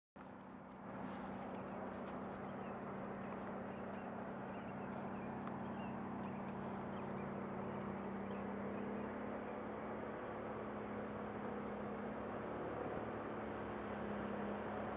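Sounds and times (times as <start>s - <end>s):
boat motor droning: 0.2s - 14.9s.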